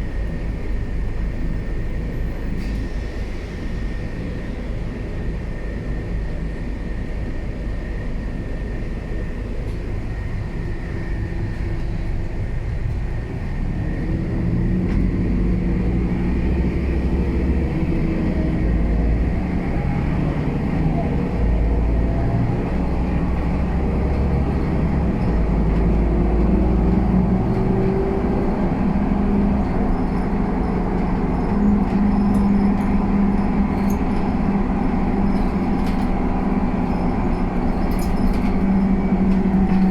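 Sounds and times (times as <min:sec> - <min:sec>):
bus engine accelerating: 0:00.0 - 0:39.9.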